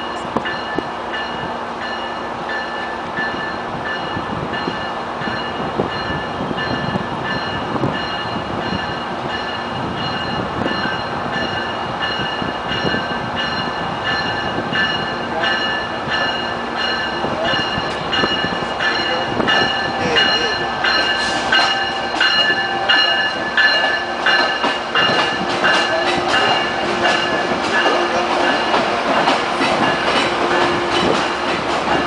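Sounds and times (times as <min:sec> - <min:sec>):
train rumble: 0:00.0 - 0:32.0
train warning bell ringing: 0:00.0 - 0:32.0.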